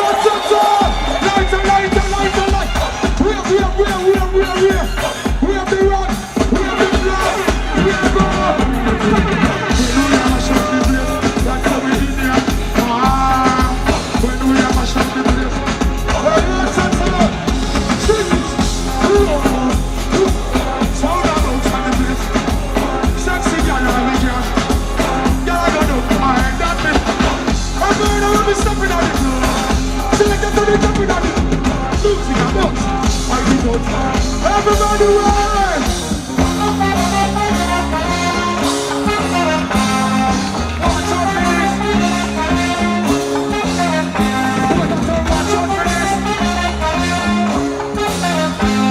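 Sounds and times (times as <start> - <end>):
drums: 0.0 - 48.9
live reggae band: 0.0 - 48.9
heavy bass line: 0.8 - 48.9.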